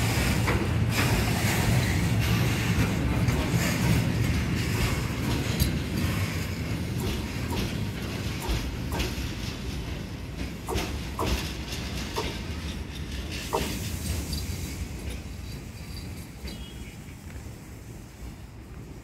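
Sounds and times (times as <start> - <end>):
train rumbling on tracks: 0.0 - 19.0.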